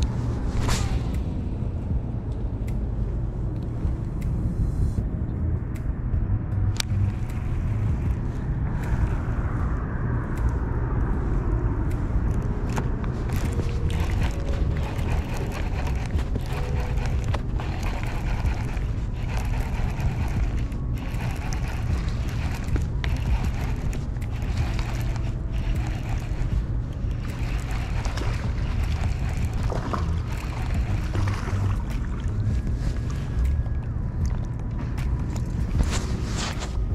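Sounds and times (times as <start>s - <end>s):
road traffic rumble: 0.0s - 36.9s
wind buffeting microphone: 0.0s - 36.9s.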